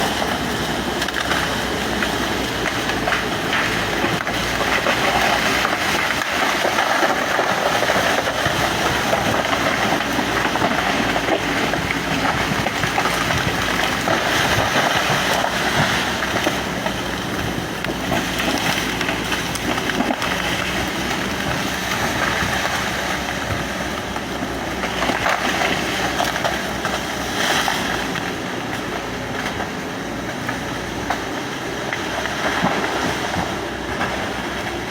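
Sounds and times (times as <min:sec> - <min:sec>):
excavator running: 0:00.0 - 0:34.9.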